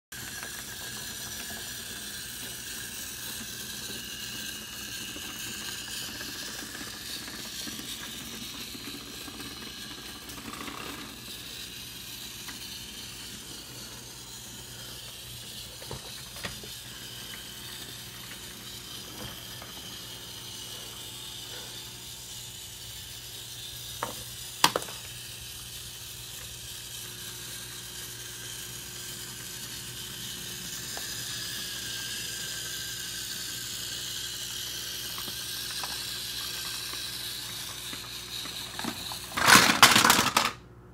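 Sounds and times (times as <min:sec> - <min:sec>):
toy train motor whine: 0:00.1 - 0:40.6
hiss: 0:00.2 - 0:39.4.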